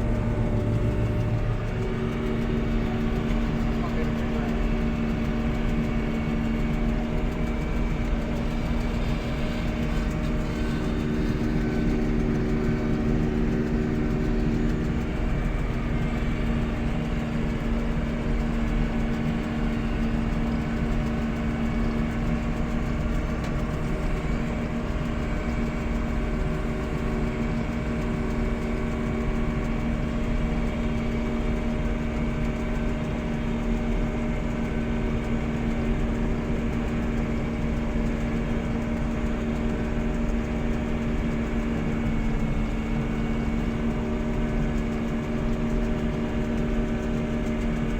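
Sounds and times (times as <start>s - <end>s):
farm machinery engine droning: 0.0s - 47.9s.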